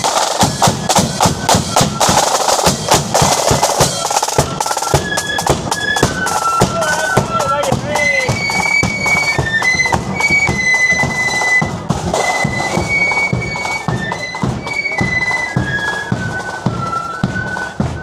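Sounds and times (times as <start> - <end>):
drum beats: 0.0 - 18.0
shrill marching band melody: 0.0 - 18.0.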